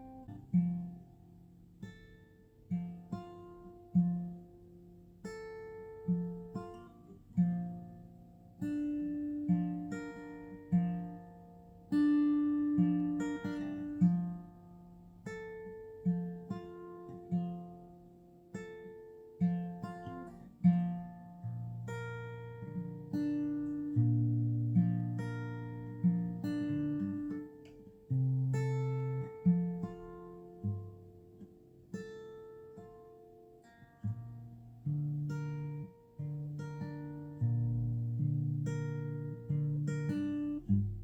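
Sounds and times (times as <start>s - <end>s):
slow acoustic guitar music: 0.0s - 41.0s.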